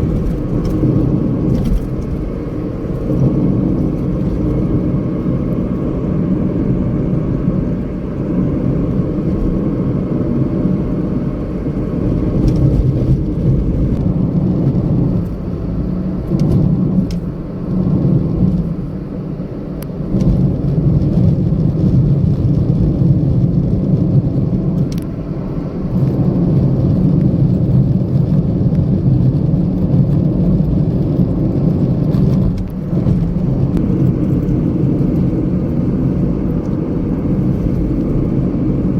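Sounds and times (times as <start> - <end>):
low rumble of motor vehicle: 0.0 - 38.9.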